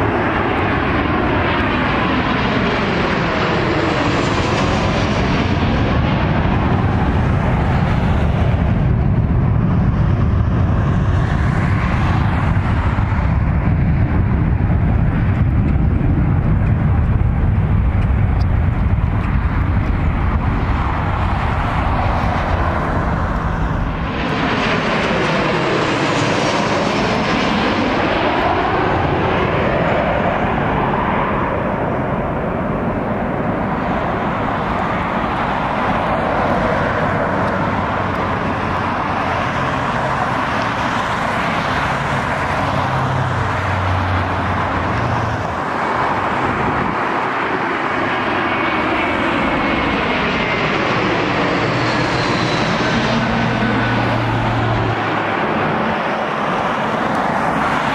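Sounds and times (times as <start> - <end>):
airliner rolling out rumble: 0.0 - 57.9
jet airliner passing overhead: 0.0 - 57.9.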